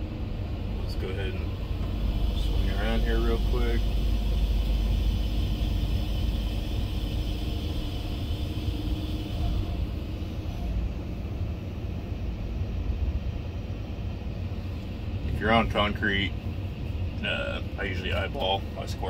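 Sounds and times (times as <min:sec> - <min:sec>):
excavator diesel engine idling: 0:00.0 - 0:19.0.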